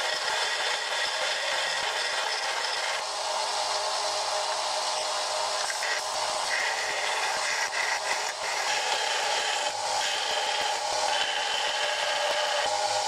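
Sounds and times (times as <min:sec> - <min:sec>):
belt grinder grinding steel: 0:00.0 - 0:03.0, 0:05.0 - 0:13.0.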